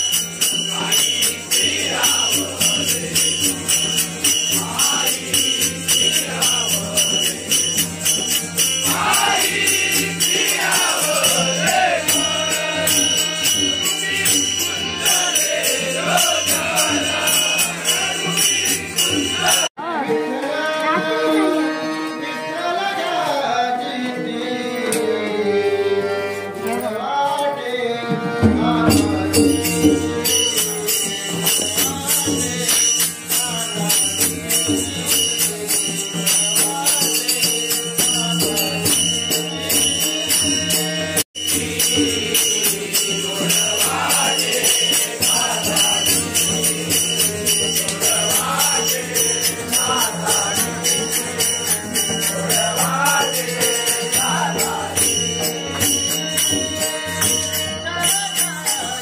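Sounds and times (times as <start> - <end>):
brass hand cymbals ringing: 0.0 - 19.7, 28.9 - 59.0
group singing devotional song: 0.0 - 21.8, 22.4 - 59.0.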